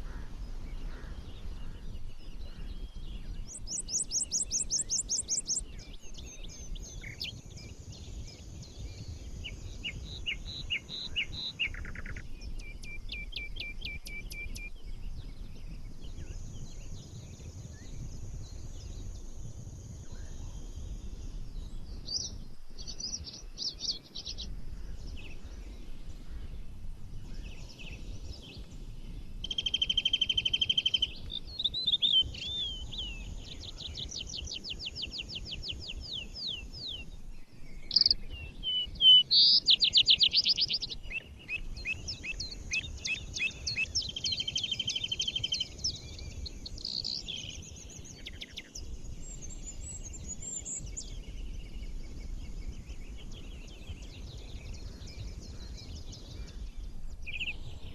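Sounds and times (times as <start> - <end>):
songbirds singing and trilling: 0.0 - 57.9.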